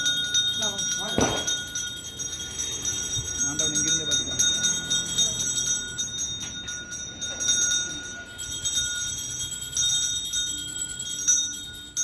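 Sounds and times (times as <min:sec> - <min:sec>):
hand bell ringing: 0:00.0 - 0:12.0.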